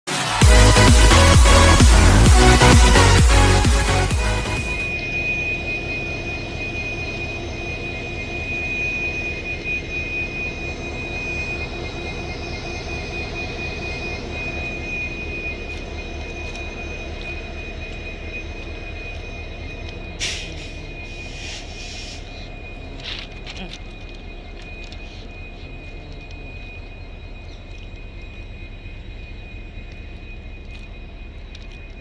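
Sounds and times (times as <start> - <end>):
diesel engine drone: 0.1 - 32.0
high whine: 0.1 - 32.0.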